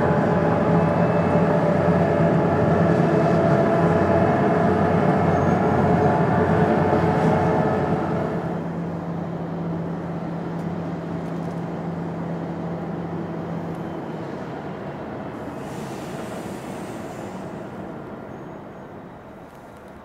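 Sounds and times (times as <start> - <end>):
jet engines rumbling: 0.0 - 19.5.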